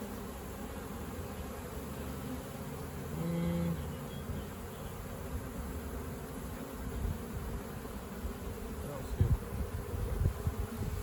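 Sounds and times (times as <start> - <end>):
bee passing close by: 0.0 - 11.0
honey bees buzzing: 0.0 - 11.0.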